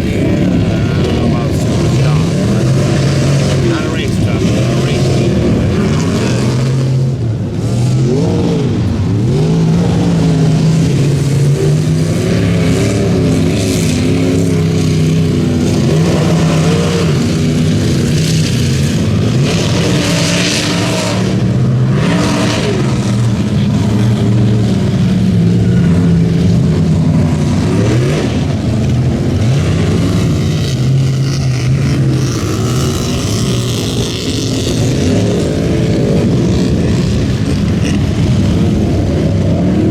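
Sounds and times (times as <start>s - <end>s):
truck engine revving hard: 0.0s - 39.9s.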